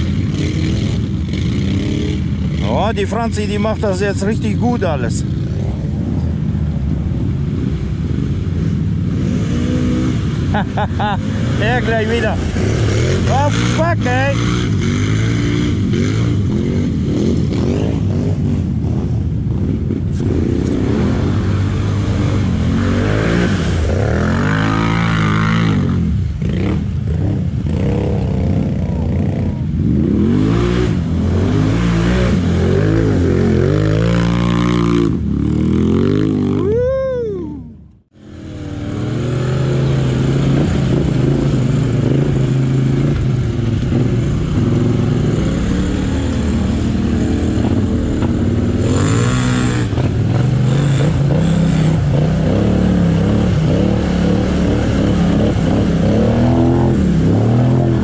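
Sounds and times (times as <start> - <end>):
quad bike engines revving: 0.0 - 58.0.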